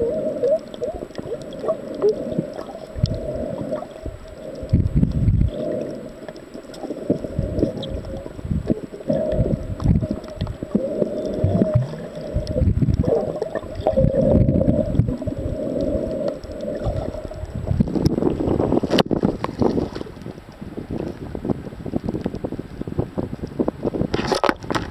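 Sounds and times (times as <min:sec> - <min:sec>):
underwater water sloshing: 0:00.0 - 0:21.2.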